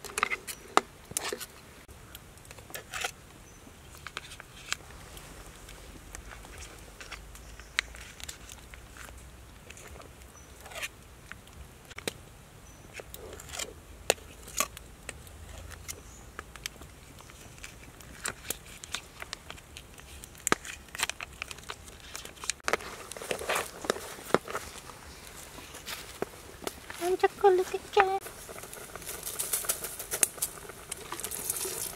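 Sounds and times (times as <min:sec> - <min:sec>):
pot boiling with pops: 0:00.0 - 0:31.9.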